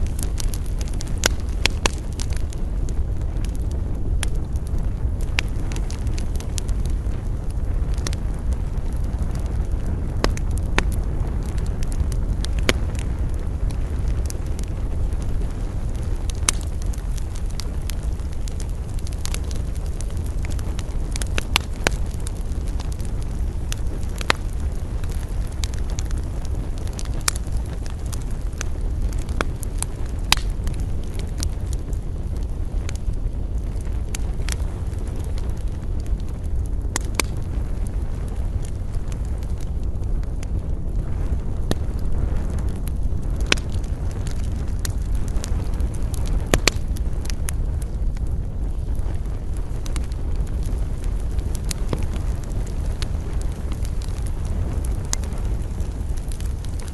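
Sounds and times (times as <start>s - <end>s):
campfire crackling and popping: 0.0s - 56.9s
fire low rumble: 0.0s - 56.9s.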